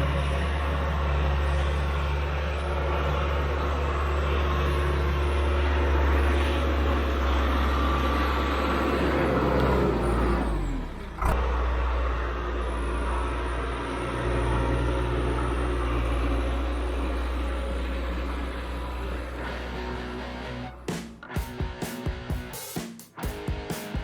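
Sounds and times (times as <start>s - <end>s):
heavy equipment engine drone: 0.0s - 22.6s.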